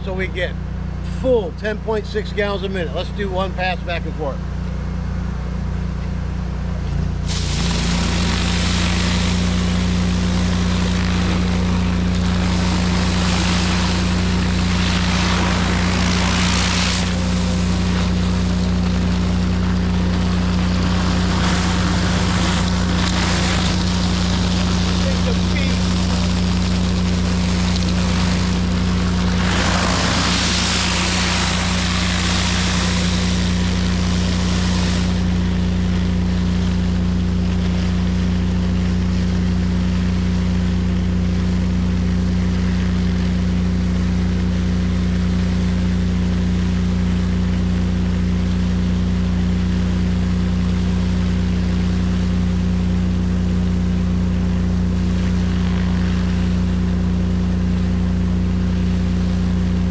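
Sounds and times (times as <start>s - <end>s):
pressure washer motor hum: 0.0s - 59.9s
high-pressure water spraying: 7.2s - 48.7s, 49.3s - 59.9s.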